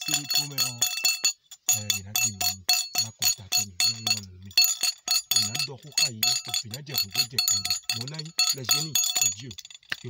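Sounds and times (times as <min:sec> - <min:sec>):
small metal bell ringing: 0:00.0 - 0:10.0.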